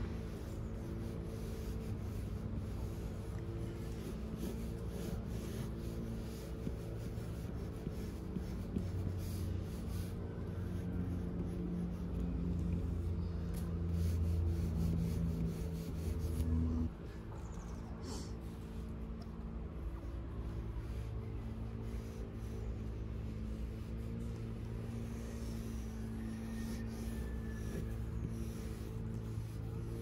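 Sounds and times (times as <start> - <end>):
pencil scratching on paper: 0.0 - 17.0, 18.0 - 30.0
low steady hum: 0.0 - 30.0.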